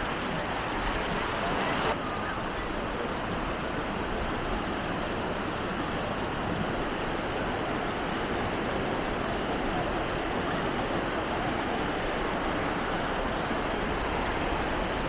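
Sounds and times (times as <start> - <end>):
surf washing: 0.0 - 15.0.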